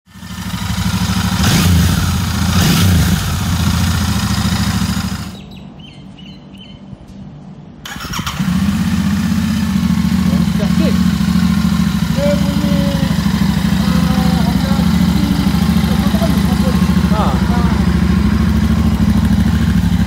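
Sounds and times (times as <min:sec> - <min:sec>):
motorcycle engine revving: 0:00.1 - 0:05.5, 0:07.8 - 0:20.0.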